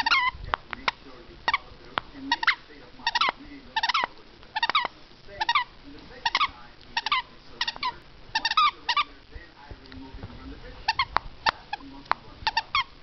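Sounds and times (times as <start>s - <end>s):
high squeaks: 0.0s - 9.2s, 10.8s - 13.0s
puppy gnawing at pumpkin: 0.0s - 13.0s.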